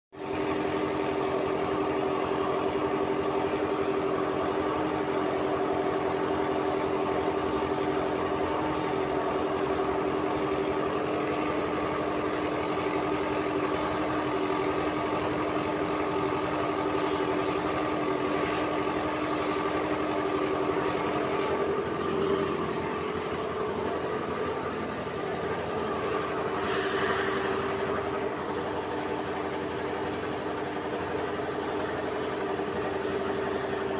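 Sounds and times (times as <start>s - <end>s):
air compressor humming: 0.2s - 33.9s.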